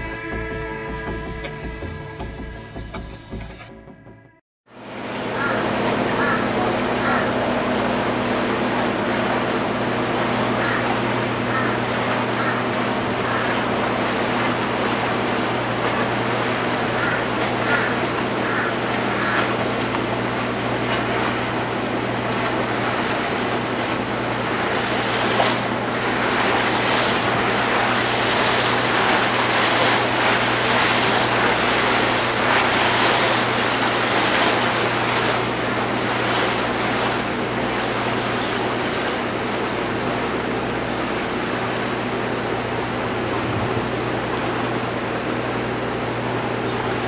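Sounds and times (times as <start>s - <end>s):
ship engine humming: 0.0s - 47.0s
wind: 4.7s - 47.0s
water rushing: 4.8s - 47.0s.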